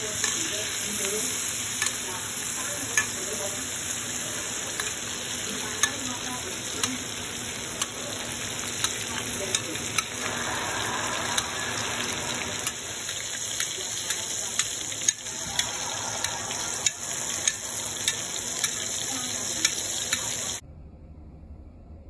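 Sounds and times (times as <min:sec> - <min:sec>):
butter sizzling in a pan: 0:00.0 - 0:20.6.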